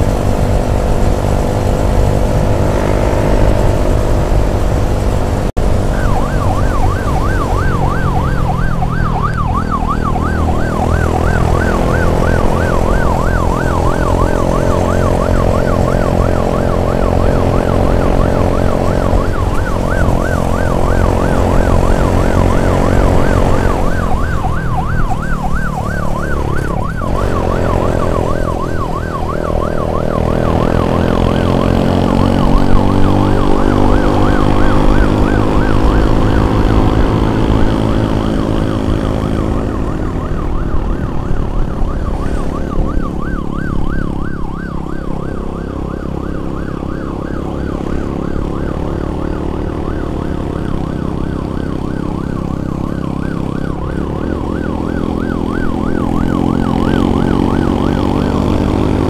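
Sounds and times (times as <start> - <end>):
vehicle engine revving: 0.0 - 44.3, 53.2 - 59.0
emergency siren yelping: 0.0 - 59.0.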